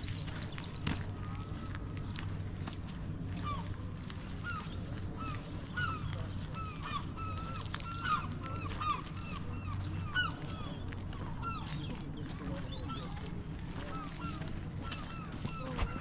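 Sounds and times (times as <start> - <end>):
steady low rumble: 0.0 - 16.0
waterfowl flock calling: 0.8 - 16.0.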